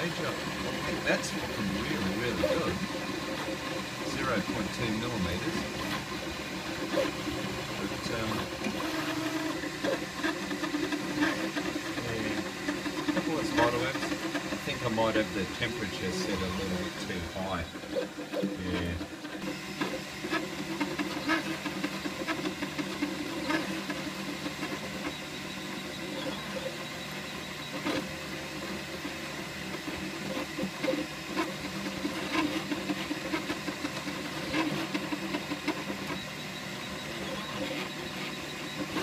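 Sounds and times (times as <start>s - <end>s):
steady printer hum: 0.0s - 39.0s
stepper motors whirring: 0.0s - 39.0s.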